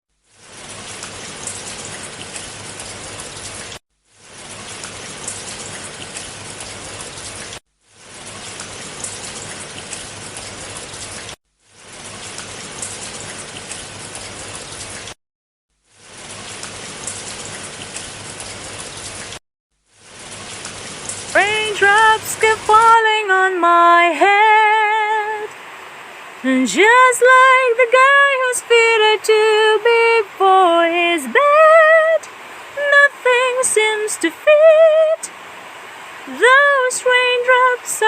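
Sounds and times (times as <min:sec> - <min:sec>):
rain falling: 0:00.2 - 0:15.2, 0:15.8 - 0:38.0.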